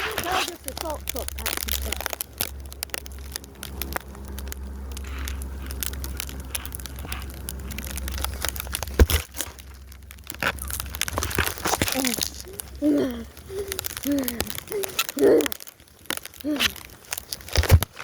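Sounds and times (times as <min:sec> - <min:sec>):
steady low rumble: 0:00.0 - 0:17.4
snow crunching: 0:00.0 - 0:18.0.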